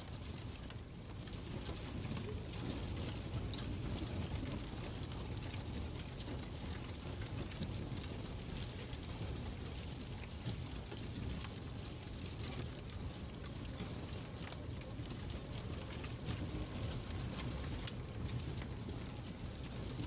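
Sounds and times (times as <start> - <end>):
fire crackles and pops: 0.0 - 20.0.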